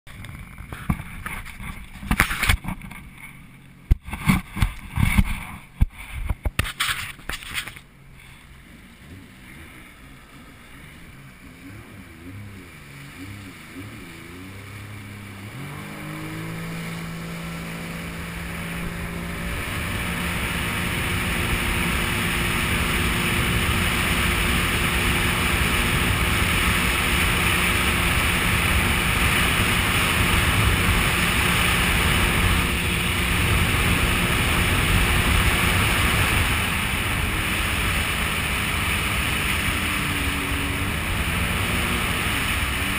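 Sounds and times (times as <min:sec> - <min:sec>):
rushing water and wind: 0:00.1 - 0:42.9
watercraft engine: 0:00.1 - 0:42.9.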